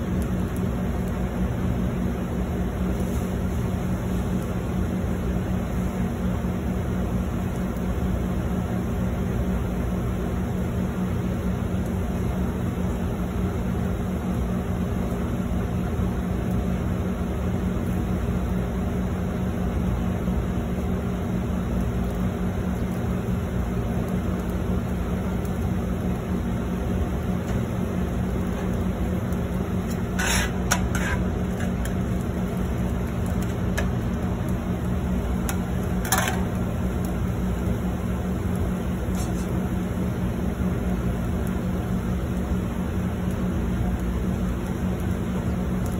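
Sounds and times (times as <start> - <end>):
exhaust hood fan drone: 0.0 - 45.9.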